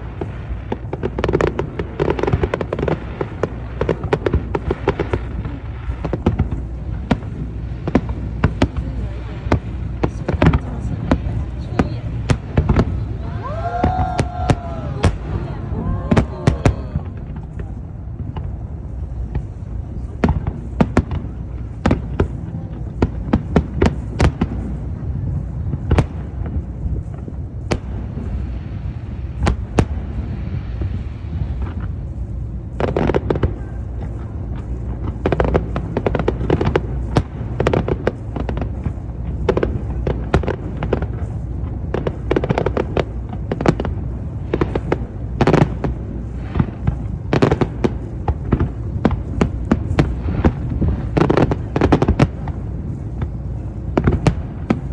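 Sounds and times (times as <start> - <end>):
fireworks bangs and crackles: 0.0 - 54.9
low rumble: 0.0 - 54.9.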